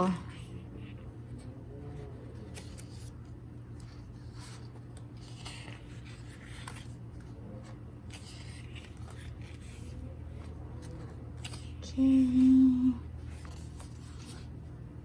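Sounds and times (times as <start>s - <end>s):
paper pages rustling: 0.0s - 14.8s
steady low hum: 0.0s - 15.0s.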